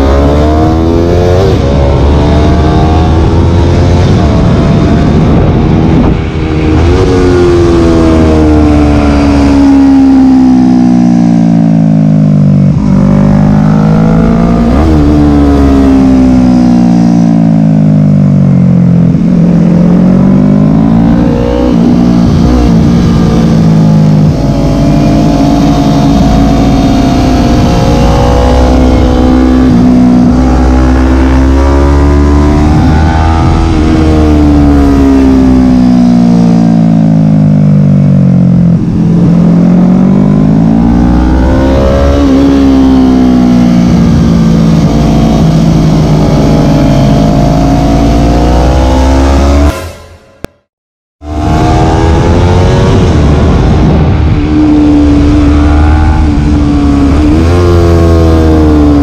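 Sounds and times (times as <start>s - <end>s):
wind rumble on microphone: 0.0s - 11.0s, 18.5s - 49.8s, 51.2s - 59.0s
motorcycle engine revving: 0.0s - 59.0s.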